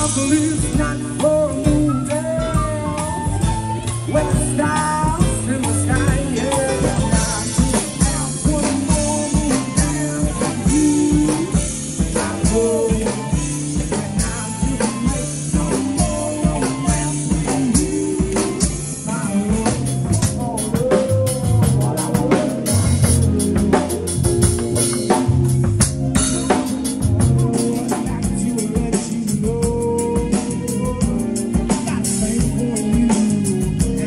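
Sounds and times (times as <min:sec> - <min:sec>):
drum kit steady beat: 0:00.0 - 0:34.0
man singing: 0:00.0 - 0:34.0.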